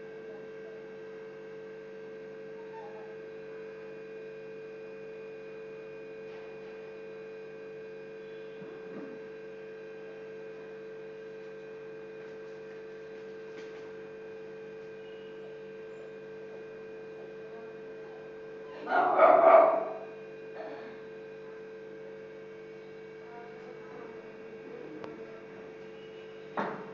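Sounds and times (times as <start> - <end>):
electrical hum: 0.0 - 26.9.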